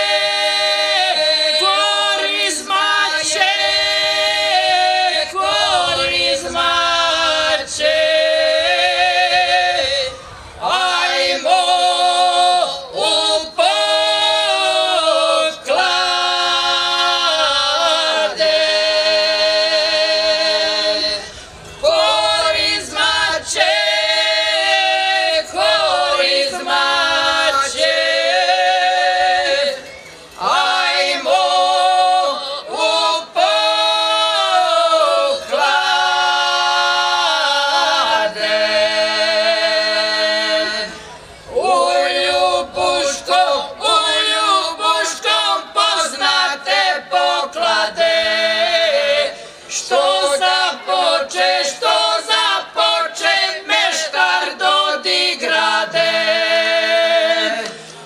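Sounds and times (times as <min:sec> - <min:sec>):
women singing unaccompanied: 0:00.0 - 0:57.8.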